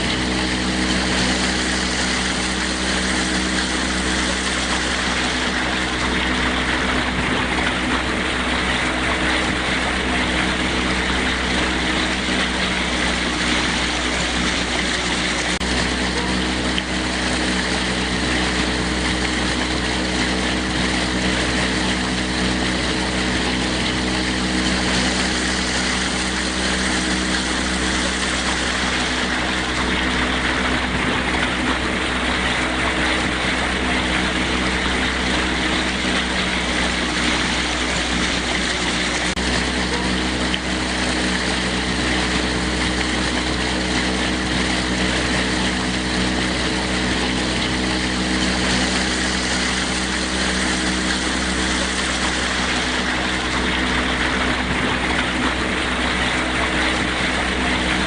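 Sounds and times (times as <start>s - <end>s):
constant low hum: 0.0s - 58.0s
water rushing against rocks: 0.0s - 58.0s.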